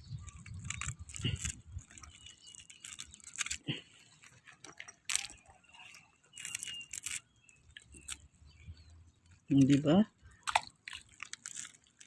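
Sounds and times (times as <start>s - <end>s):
net scraping shells: 0.0s - 12.0s.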